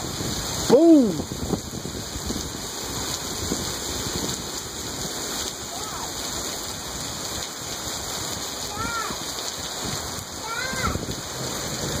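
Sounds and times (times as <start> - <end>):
heavy rain pelting: 0.0 - 12.0.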